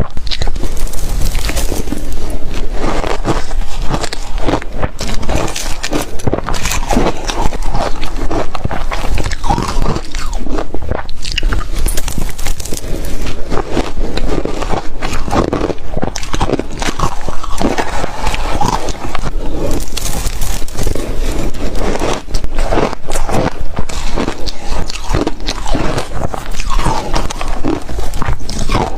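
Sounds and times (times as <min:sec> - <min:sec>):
ice crunching between teeth: 0:00.0 - 0:28.9.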